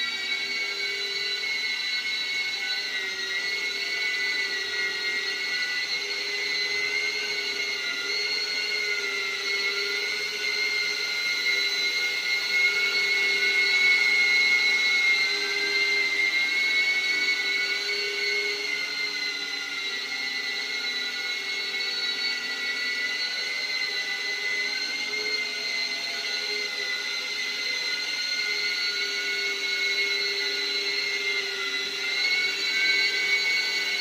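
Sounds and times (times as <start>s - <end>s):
drone motors high whine: 0.0s - 34.0s.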